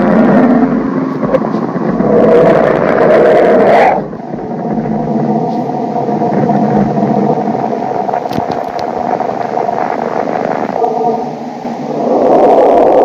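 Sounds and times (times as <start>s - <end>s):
rumbling hissing drone: 0.0s - 13.0s.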